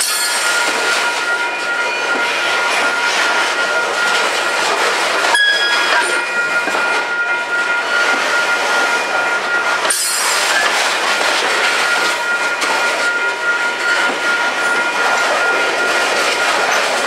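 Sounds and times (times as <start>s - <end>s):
steel wheels running on rails: 0.0s - 17.0s.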